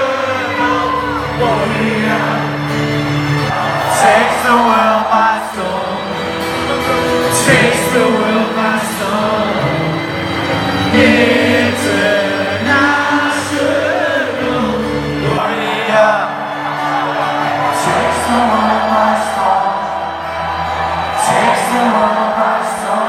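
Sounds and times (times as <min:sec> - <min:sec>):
guitar: 0:00.0 - 0:23.0
live band music: 0:00.0 - 0:23.0
person singing: 0:00.0 - 0:23.0.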